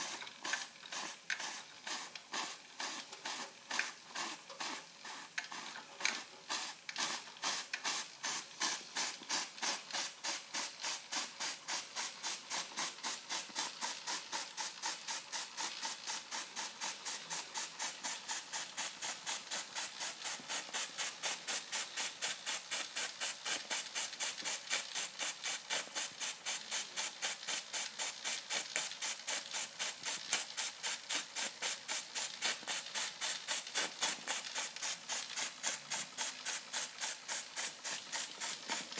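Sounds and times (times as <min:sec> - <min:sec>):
toy steam engine hissing puffs: 0:00.0 - 0:38.9.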